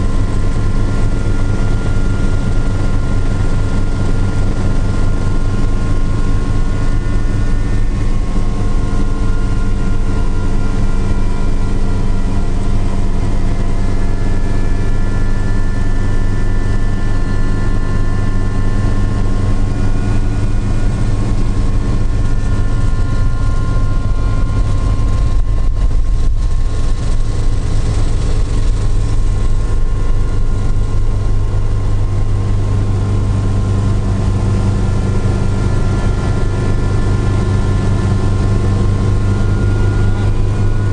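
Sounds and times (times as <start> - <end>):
helicopter rotor and engine drone: 0.0 - 40.9
high turbine whine: 0.0 - 40.9.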